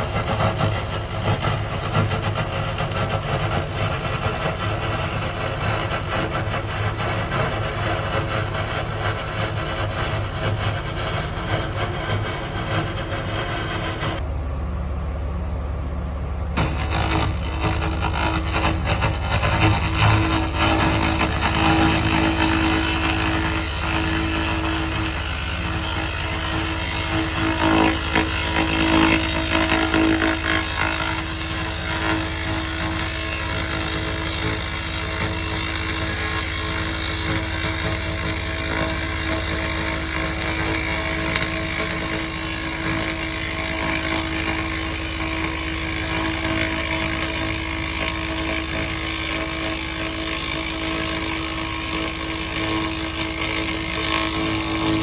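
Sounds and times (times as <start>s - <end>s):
laser rust remover buzzing hum: 8.6s - 55.0s.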